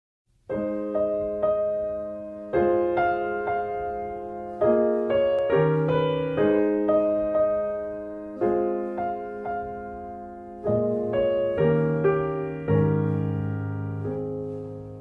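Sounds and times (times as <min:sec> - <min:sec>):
soft piano music: 0:00.3 - 0:15.0.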